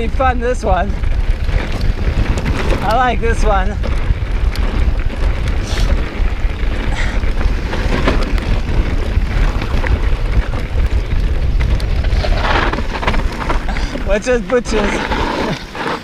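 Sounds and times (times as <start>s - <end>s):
bike knocks and rattles: 0.0s - 14.7s
wind buffeting microphone: 0.0s - 15.8s
tyre rumble on dirt: 0.0s - 16.0s.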